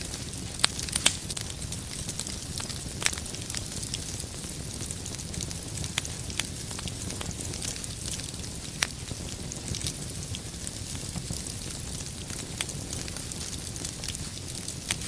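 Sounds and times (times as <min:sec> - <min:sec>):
fire crackling and popping: 0:00.0 - 0:15.0
fire rumbling and hissing: 0:00.0 - 0:15.0.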